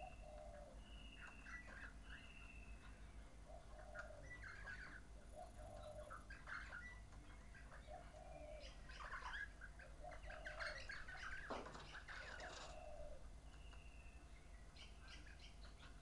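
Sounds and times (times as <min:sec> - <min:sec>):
bird cooing call: 0:00.0 - 0:14.2.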